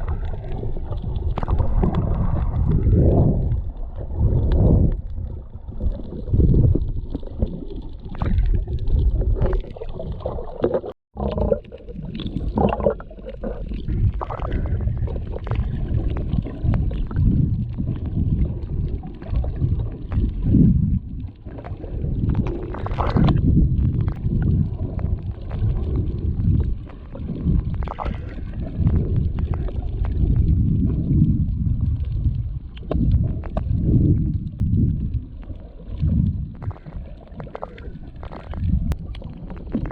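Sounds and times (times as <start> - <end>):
muffled underwater water gurgling: 0.0 - 39.9.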